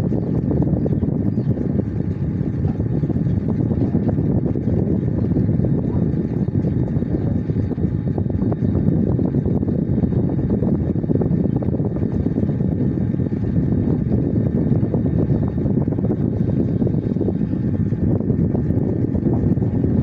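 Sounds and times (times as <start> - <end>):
loud low rumble: 0.0 - 20.0.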